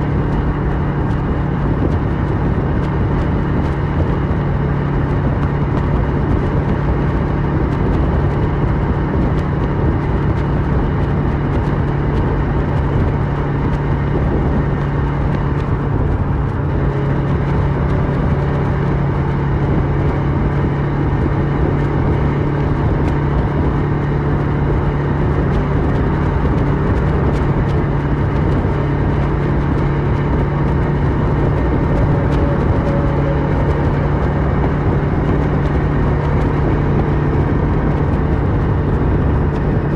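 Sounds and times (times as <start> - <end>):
motorcycle engine running steadily: 0.0 - 39.9
wind and road noise: 0.0 - 39.9.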